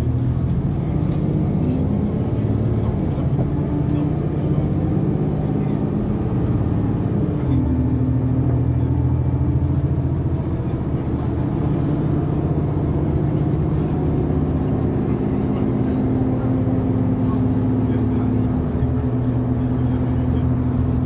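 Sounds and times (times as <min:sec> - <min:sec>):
bus engine droning: 0:00.0 - 0:21.0.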